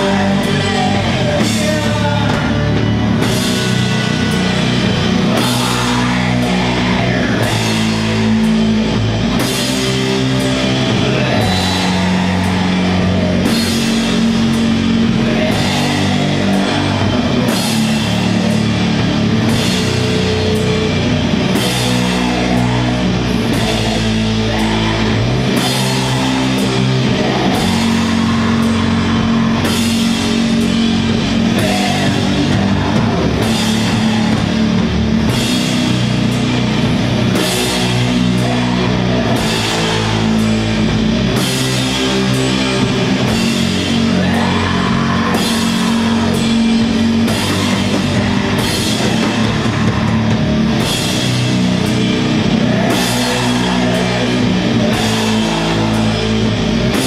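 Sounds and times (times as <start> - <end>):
distorted guitars and bass: 0.0 - 57.0.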